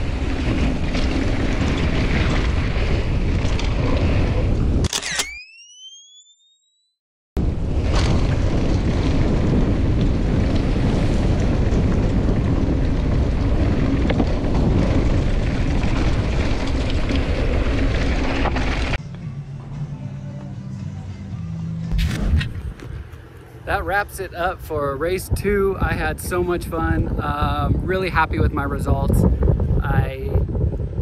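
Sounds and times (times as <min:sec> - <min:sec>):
wind buffeting microphone: 0:00.0 - 0:04.9, 0:07.4 - 0:19.0, 0:21.9 - 0:31.0.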